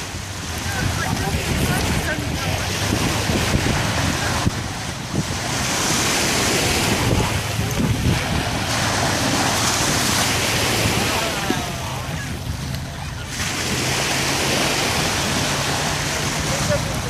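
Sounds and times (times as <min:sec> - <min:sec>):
shallow surf washing: 0:00.0 - 0:17.0
wind buffeting microphone: 0:00.0 - 0:17.0.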